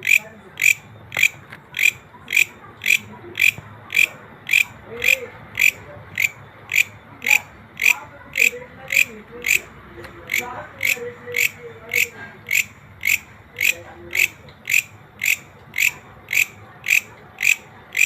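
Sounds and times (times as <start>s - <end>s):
grasshopper chirping: 0.0s - 18.0s.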